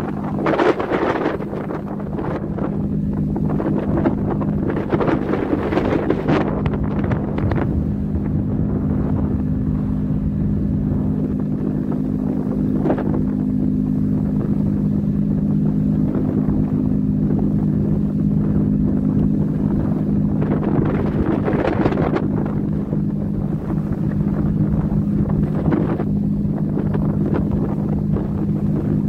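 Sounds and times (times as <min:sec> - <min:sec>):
ship engine humming: 0:00.0 - 0:29.0
wind buffeting microphone: 0:00.0 - 0:29.0.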